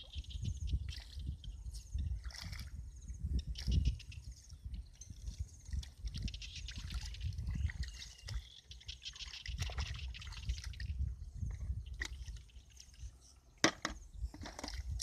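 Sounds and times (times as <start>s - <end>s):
muddy water sloshing and splashing: 0.7s - 15.0s.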